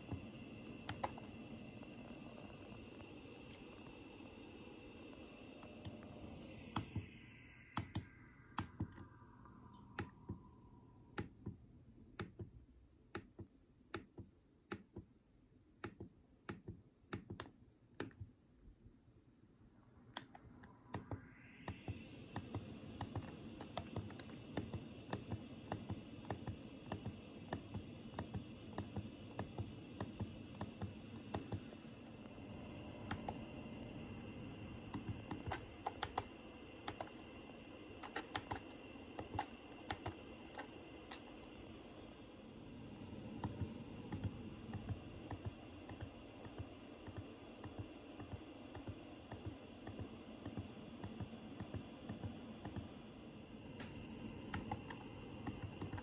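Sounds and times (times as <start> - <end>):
air conditioner fan whirring: 0.0 - 56.0.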